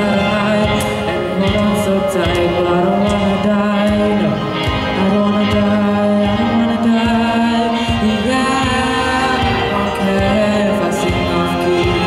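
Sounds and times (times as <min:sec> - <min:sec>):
boy singing into a microphone: 0:00.0 - 0:12.0
electronic accompaniment with beat: 0:00.0 - 0:12.0.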